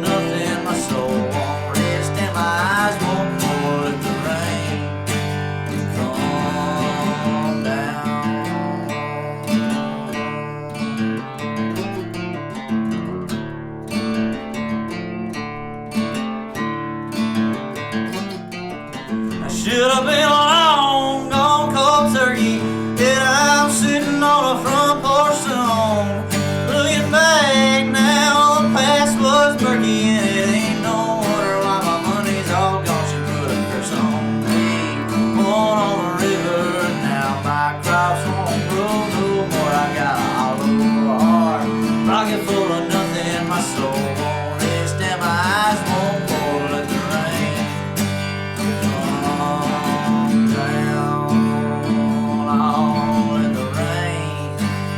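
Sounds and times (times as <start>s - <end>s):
acoustic guitar strumming chords: 0.0s - 54.9s
bending guitar melody: 0.0s - 54.9s.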